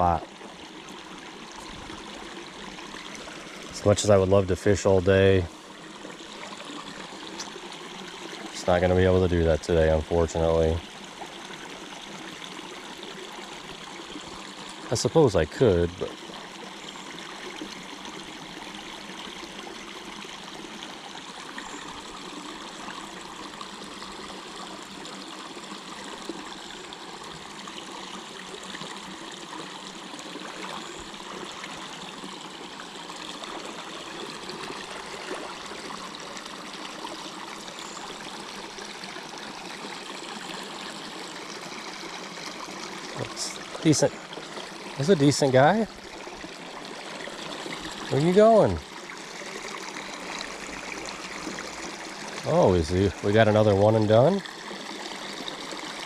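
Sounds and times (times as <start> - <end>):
creek water running: 0.0 - 56.0.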